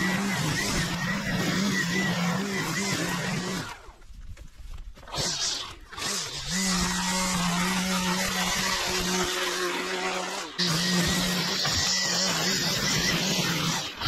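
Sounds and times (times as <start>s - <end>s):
string trimmer engine: 0.0s - 4.0s, 5.0s - 14.0s.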